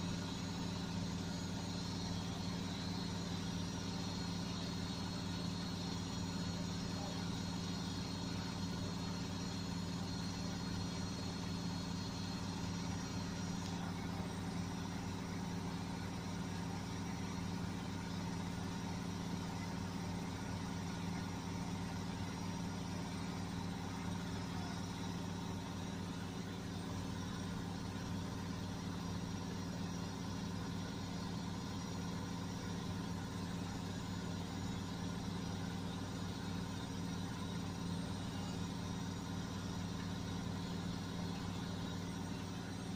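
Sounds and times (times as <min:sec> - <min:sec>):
washing machine motor hum: 0:00.0 - 0:42.9.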